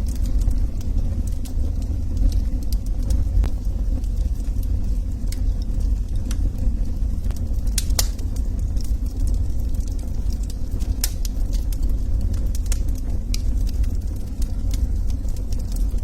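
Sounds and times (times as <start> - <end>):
fire crackles and pops: 0.0 - 16.0
log fire burning: 0.0 - 16.0.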